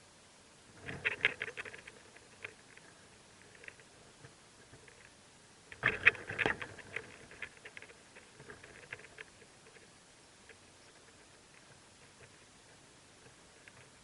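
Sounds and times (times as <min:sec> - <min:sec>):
rustling and scratching in nest: 0:00.7 - 0:05.2, 0:05.8 - 0:14.0.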